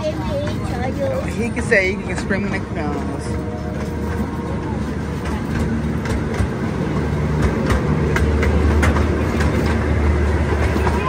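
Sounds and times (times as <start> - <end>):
train cars rumbling: 0.0 - 11.0
wheels clicking over rails: 0.0 - 11.0.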